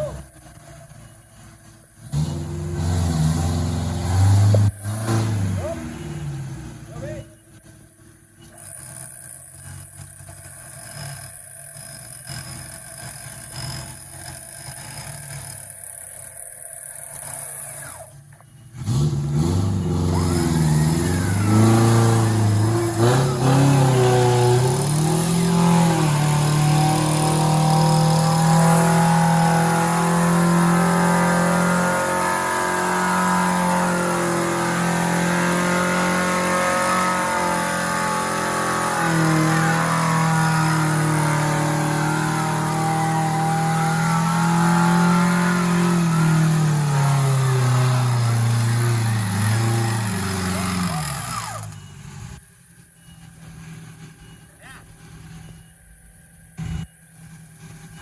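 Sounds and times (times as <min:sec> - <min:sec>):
engine revving under load: 0:00.0 - 0:55.6.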